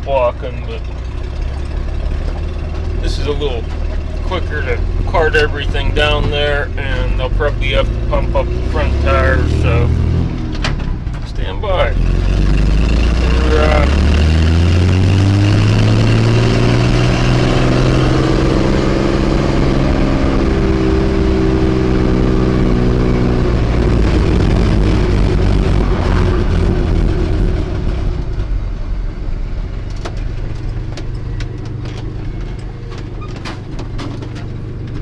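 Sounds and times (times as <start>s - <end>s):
truck engine humming: 0.0s - 35.0s.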